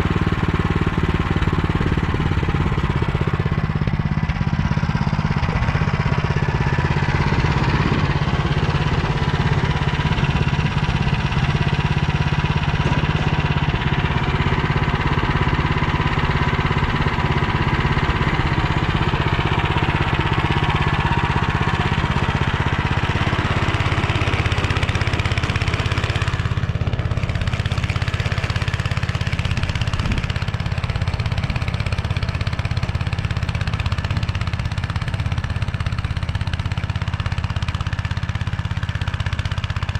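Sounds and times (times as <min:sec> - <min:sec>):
rotary tiller through soil: 0:00.0 - 0:39.9
tractor engine running: 0:00.0 - 0:39.9.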